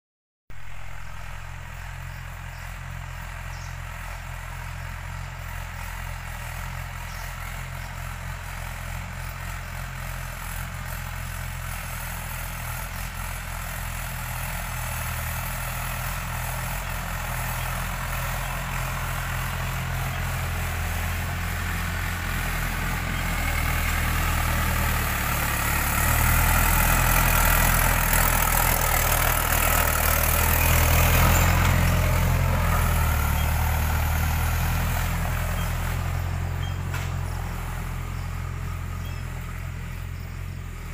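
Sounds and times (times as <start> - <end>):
tractor diesel engine running: 0.5 - 40.9.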